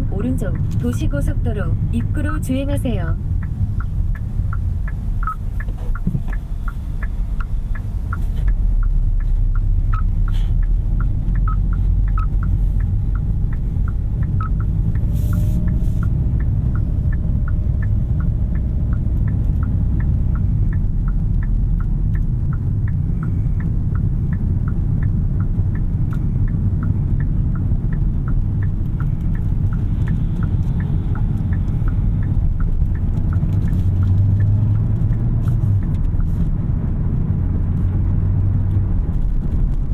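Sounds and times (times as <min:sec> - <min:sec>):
road and tyre rumble: 0:00.0 - 0:39.9
turn signal ticking: 0:00.0 - 0:39.9.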